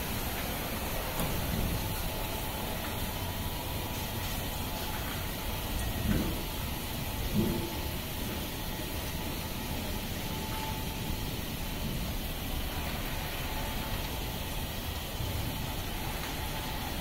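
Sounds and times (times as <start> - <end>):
water jets spraying car: 0.0 - 17.0.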